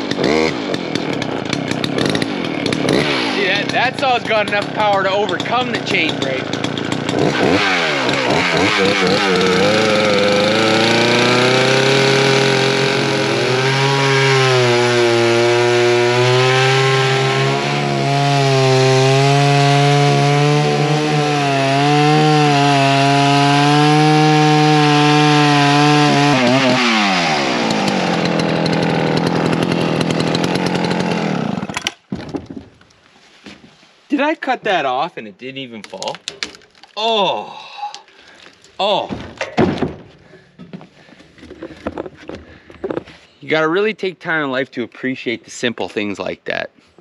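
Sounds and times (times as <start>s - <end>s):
chainsaw cutting log: 0.0s - 32.9s, 38.1s - 43.2s.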